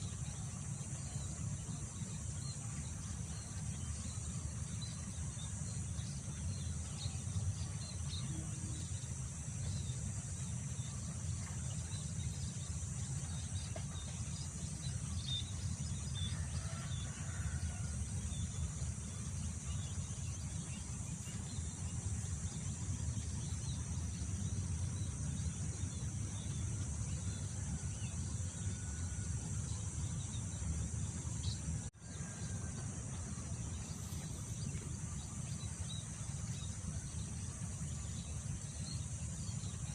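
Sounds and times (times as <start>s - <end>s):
high drone of insects: 0.0s - 39.9s.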